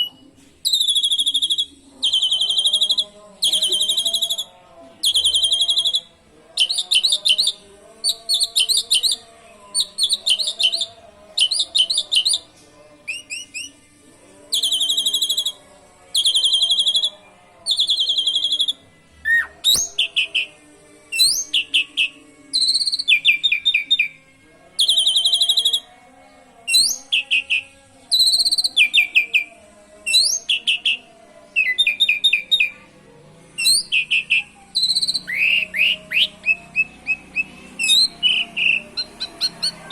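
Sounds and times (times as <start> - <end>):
starling singing trills: 0.0 - 24.2, 24.8 - 26.0, 26.6 - 32.7, 33.6 - 39.9.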